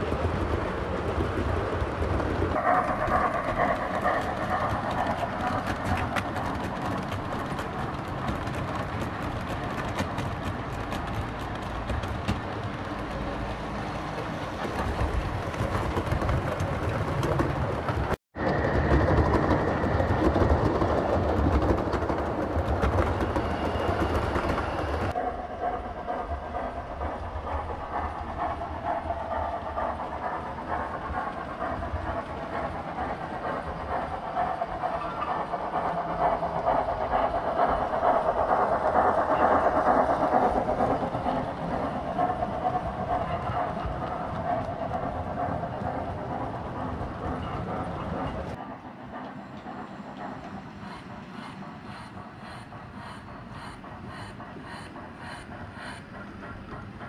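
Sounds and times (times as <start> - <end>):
model train wheels rumbling: 0.0 - 57.0.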